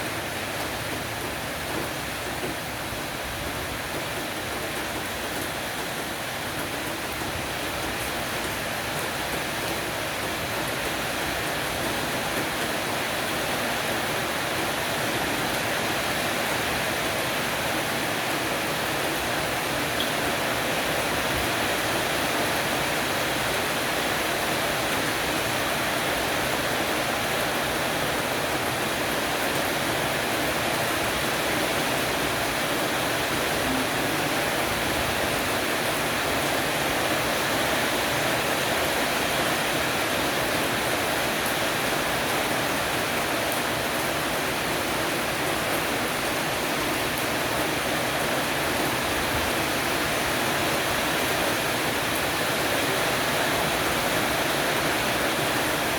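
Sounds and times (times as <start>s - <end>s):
heavy rain on a porch roof: 0.0s - 55.9s.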